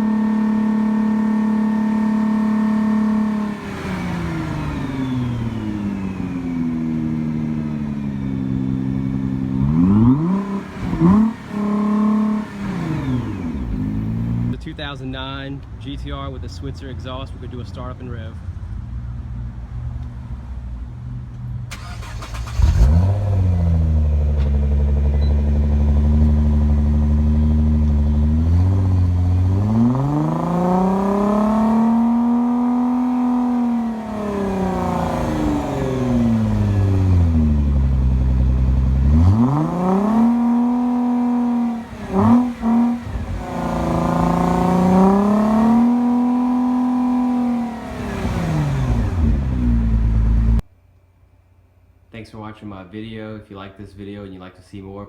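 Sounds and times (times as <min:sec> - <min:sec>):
car engine revving: 0:00.0 - 0:15.4, 0:21.7 - 0:50.6.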